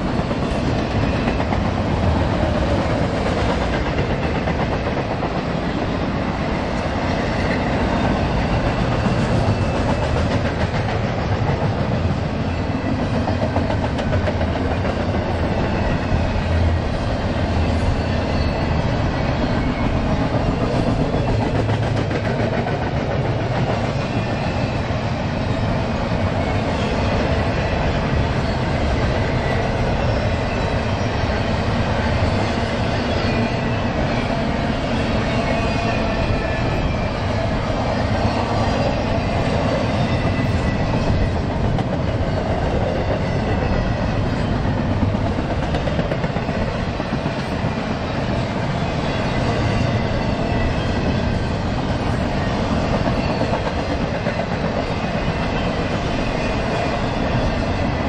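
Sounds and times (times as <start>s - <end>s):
train rumbling and rattling on rails: 0.0s - 58.0s.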